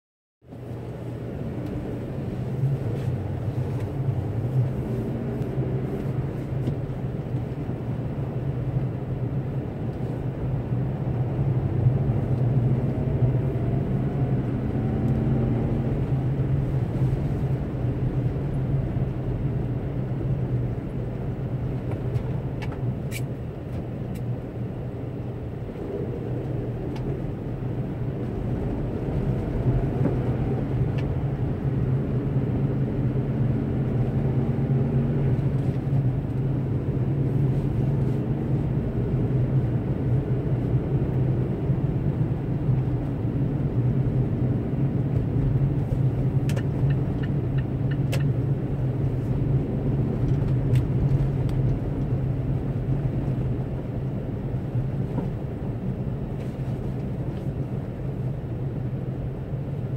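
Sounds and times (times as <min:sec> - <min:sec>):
car engine and tyre hum: 0:00.4 - 0:59.9.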